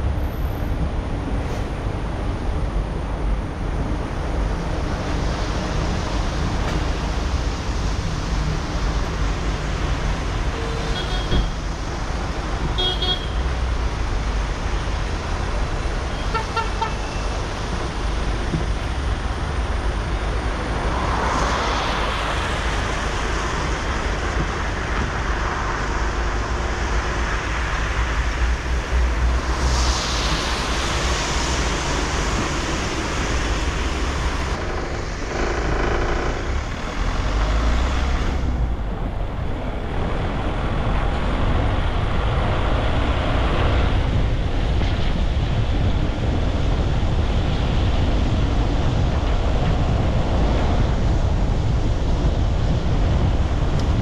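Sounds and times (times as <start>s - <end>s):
passing vehicle hum: 0.0s - 54.0s
tyres on highway road noise: 0.0s - 54.0s
vehicles swishing past: 4.3s - 54.0s.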